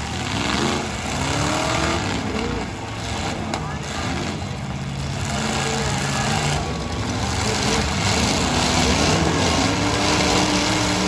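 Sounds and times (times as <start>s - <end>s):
truck engines revving: 0.0s - 11.0s.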